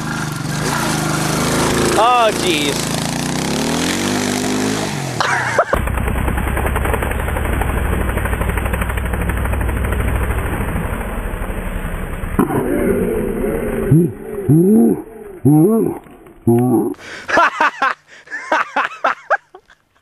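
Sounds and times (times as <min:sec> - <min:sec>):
dirt bike engine chugging: 0:00.0 - 0:16.8.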